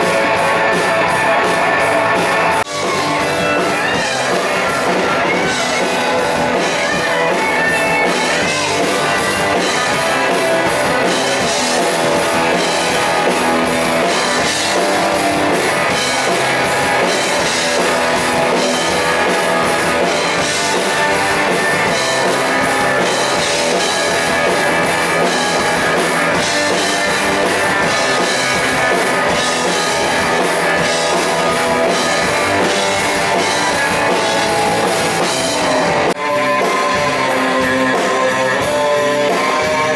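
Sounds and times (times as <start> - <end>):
drum kit beat: 0.0 - 39.9
electric guitar: 0.0 - 39.9
live rock band playing: 0.0 - 39.9.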